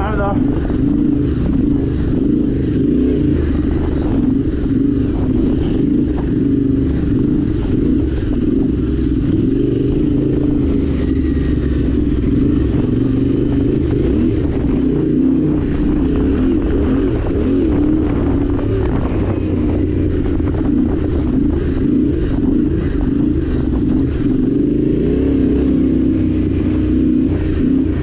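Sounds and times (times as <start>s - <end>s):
motorcycle engine droning: 0.0s - 28.0s.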